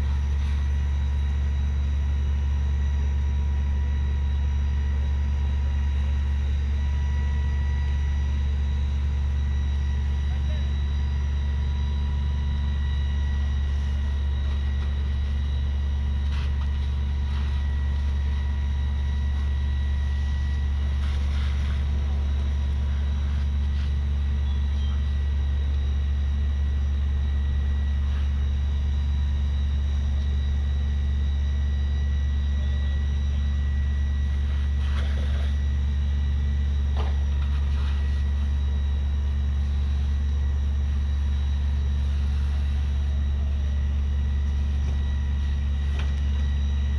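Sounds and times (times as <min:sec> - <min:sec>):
diesel engine droning at high idle: 0:00.0 - 0:46.9
faint steady whine: 0:00.0 - 0:46.9.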